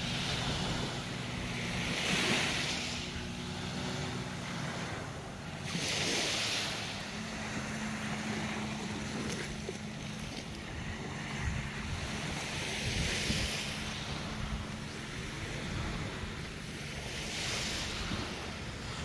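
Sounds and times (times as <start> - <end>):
small waves washing onto sand: 0.0 - 19.0
steady low hum: 0.0 - 19.0
wind rumbling on microphone: 0.0 - 19.0.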